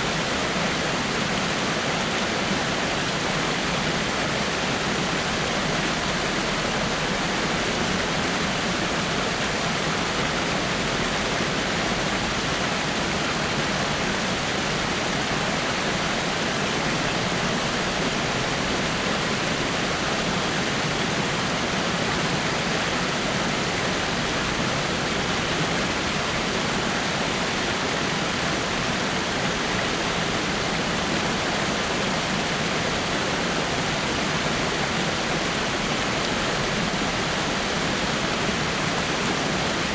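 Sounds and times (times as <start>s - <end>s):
small waterfall over rocks: 0.0s - 39.9s.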